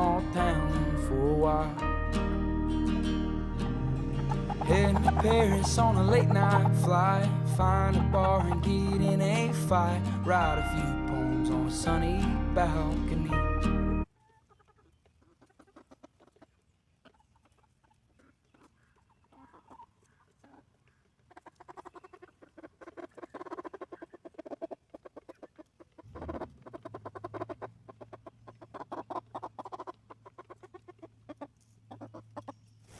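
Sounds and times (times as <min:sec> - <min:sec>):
chickens clucking: 0:03.2 - 0:12.0, 0:14.0 - 0:32.9.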